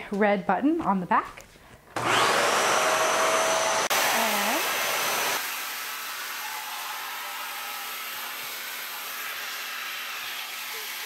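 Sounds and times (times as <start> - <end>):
vacuum cleaner running: 2.0 - 11.0.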